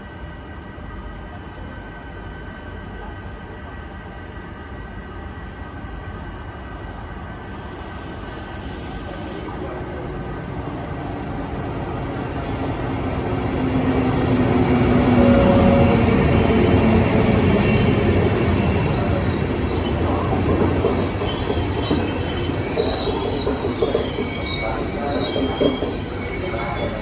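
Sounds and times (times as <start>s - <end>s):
train approaching: 0.0s - 27.0s.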